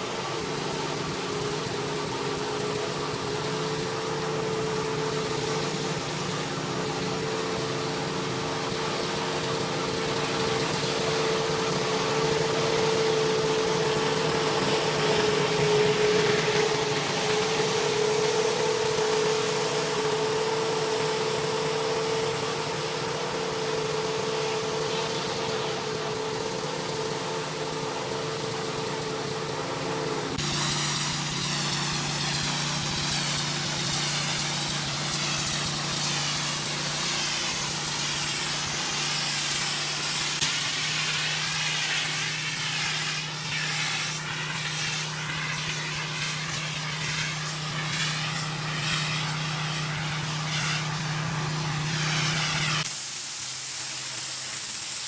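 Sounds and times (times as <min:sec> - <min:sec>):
high-pressure water spray hissing: 0:00.0 - 0:55.0
pressure washer engine running: 0:00.0 - 0:55.0.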